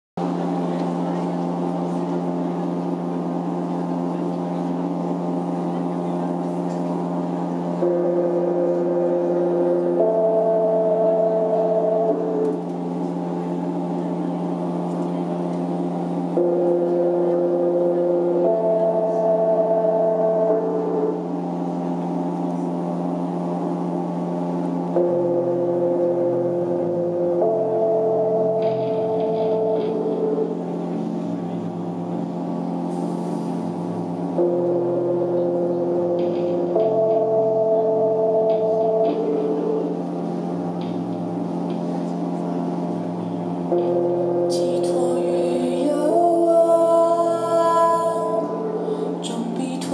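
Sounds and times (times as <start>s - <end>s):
steady low drone: 0.2s - 49.9s
sustained keyboard chords: 0.2s - 49.9s.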